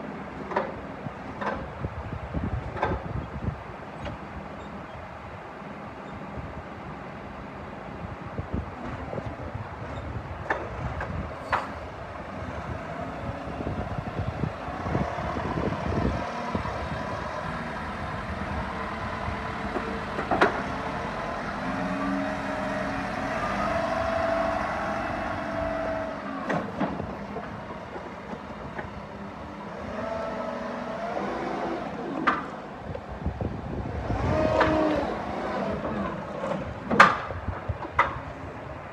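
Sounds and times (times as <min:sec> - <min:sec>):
excavator engine and hydraulic whine: 0:00.0 - 0:38.9.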